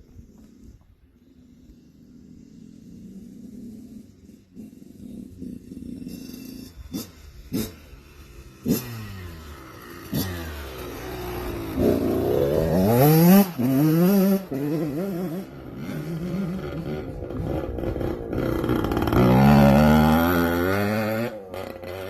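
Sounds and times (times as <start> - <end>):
motorcycle engine revving: 0.2 - 22.0.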